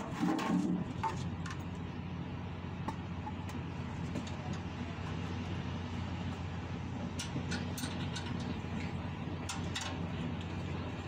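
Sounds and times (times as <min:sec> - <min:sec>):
low mechanical engine hum: 0:00.0 - 0:11.0.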